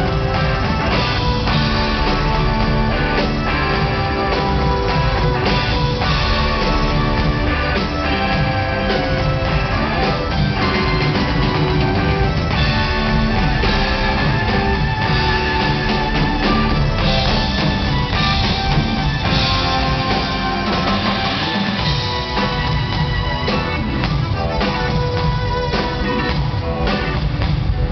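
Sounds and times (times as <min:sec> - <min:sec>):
drum kit: 0:00.0 - 0:27.9
electric guitar: 0:00.0 - 0:27.9
keyboards: 0:00.0 - 0:27.9.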